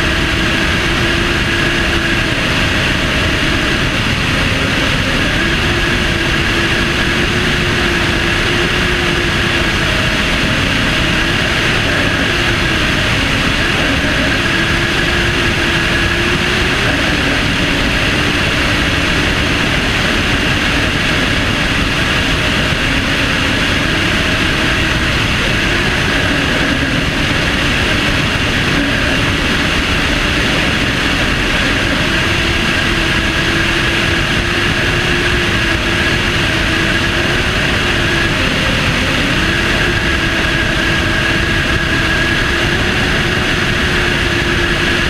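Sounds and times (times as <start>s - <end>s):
aircraft engine drone: 0.0s - 45.0s
wind rushing over microphone: 0.0s - 45.0s.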